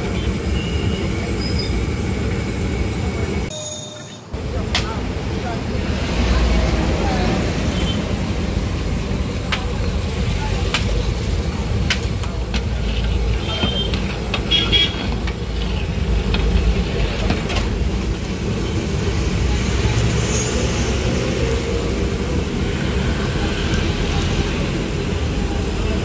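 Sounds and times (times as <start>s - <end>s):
food sizzling in hot oil: 4.4s - 26.0s.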